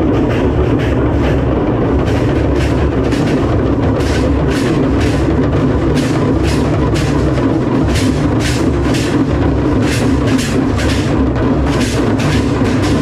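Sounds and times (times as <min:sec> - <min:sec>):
drummers playing hand drums: 0:00.0 - 0:13.0.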